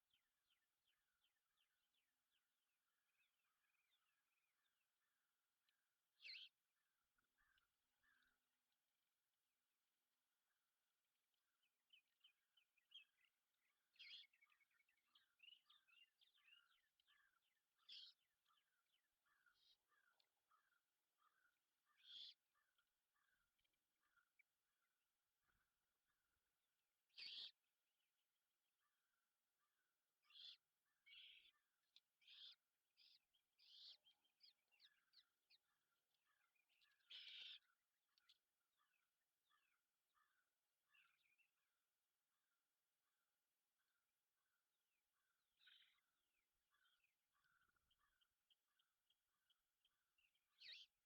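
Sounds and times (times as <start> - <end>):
songbirds chirping: 0.0 - 51.0.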